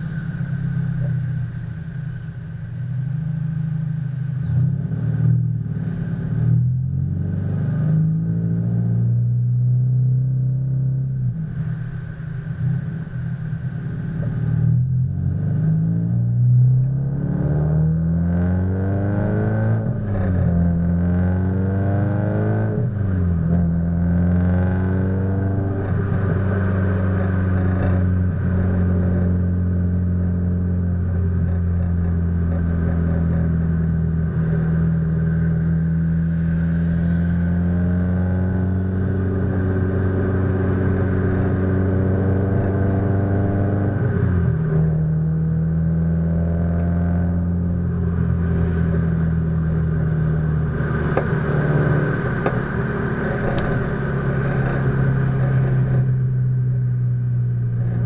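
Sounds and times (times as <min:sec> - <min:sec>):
car exhaust low drone: 0:00.0 - 0:58.0.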